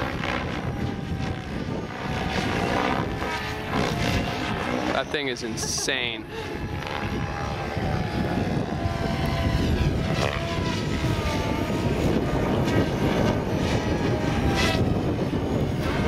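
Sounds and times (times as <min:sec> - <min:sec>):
rc helicopter rotor whine: 0:00.0 - 0:16.0
steady rushing noise: 0:00.0 - 0:16.0.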